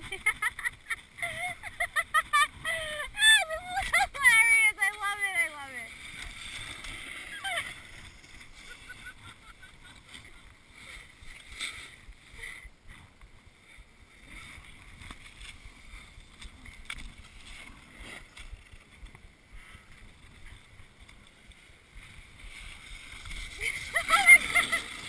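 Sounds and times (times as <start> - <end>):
snowboard scraping over snow: 0.0 - 19.3, 19.9 - 25.0.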